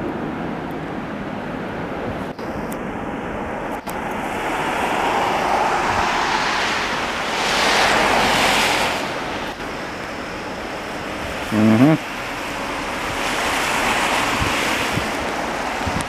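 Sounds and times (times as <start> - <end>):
jetliner passing overhead: 0.0 - 16.0.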